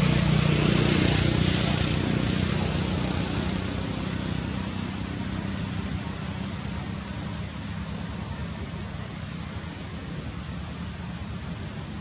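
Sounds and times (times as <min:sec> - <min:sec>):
broad rushing noise: 0:00.0 - 0:12.0
vehicle engine drone: 0:00.0 - 0:12.0.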